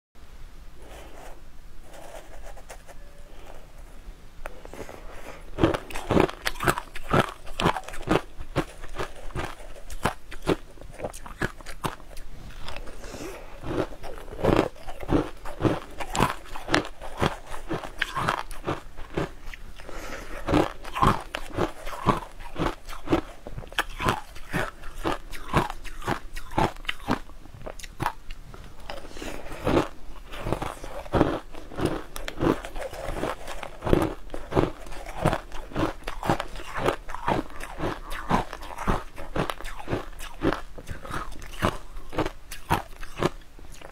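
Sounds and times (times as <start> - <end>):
crushed ice crunching being chewed: 4.7 - 43.9.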